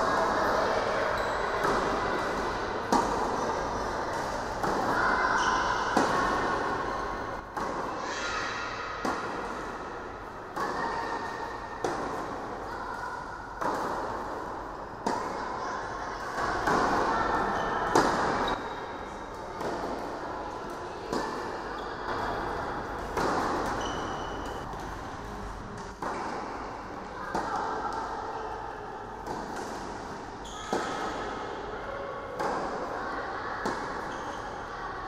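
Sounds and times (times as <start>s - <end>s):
tennis balls struck with rackets: 0.0s - 8.0s, 8.8s - 15.6s, 16.2s - 28.2s, 29.1s - 31.7s, 32.3s - 33.0s, 33.6s - 34.4s.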